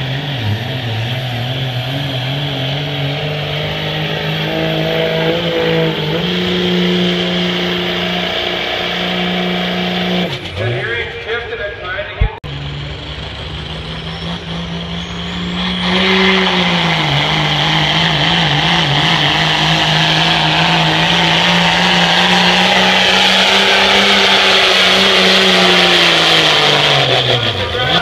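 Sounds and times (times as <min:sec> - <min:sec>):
diesel truck engine at full throttle: 0:00.0 - 0:28.0.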